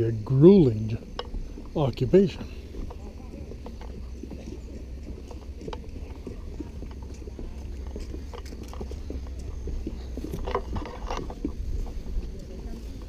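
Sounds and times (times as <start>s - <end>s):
footsteps crunching on a path: 0.0s - 13.0s
steady low rumble: 0.0s - 13.0s.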